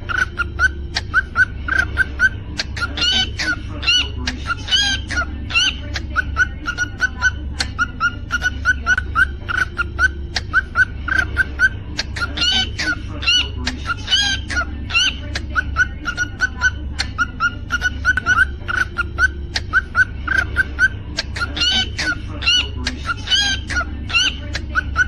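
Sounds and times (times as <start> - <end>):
cockatiel chirping: 0.0 - 25.0
steady low hum: 0.0 - 25.0.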